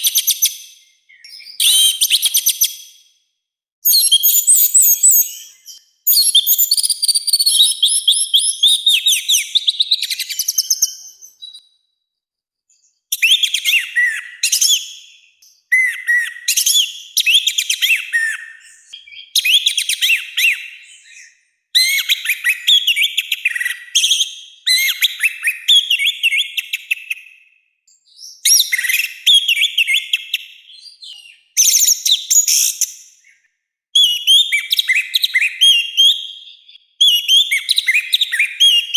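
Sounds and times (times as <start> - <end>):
bird singing whistled song: 0.0 - 12.0, 12.7 - 38.9.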